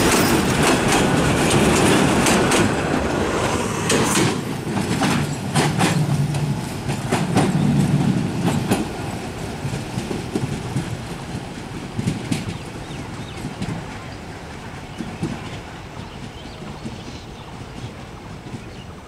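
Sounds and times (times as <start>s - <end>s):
train rumbling: 0.0s - 19.0s
train wheels clacking on rail joints: 0.0s - 19.0s.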